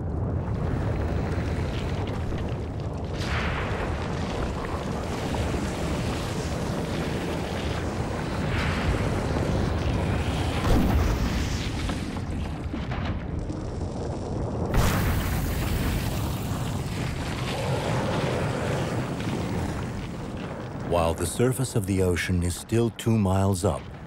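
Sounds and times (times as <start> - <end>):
deep underwater rumble: 0.0 - 20.9.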